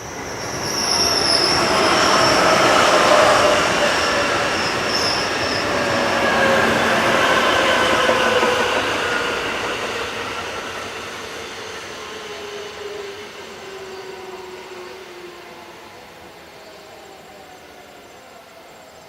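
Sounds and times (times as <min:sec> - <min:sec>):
freight train rolling past: 0:00.0 - 0:19.0
thin tones from train wheels: 0:00.0 - 0:19.0.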